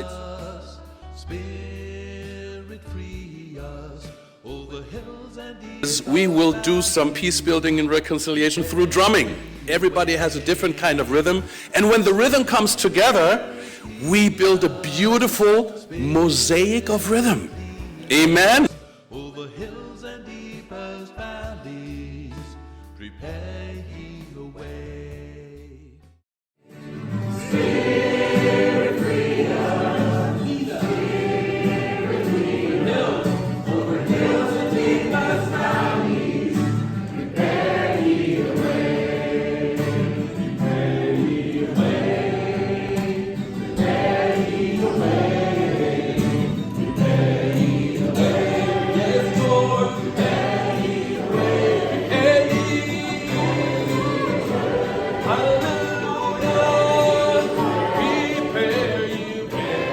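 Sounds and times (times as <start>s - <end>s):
choir singing worship song: 0.0s - 3.6s, 5.8s - 22.3s, 26.8s - 59.9s
musical accompaniment: 0.0s - 24.9s, 26.7s - 59.9s.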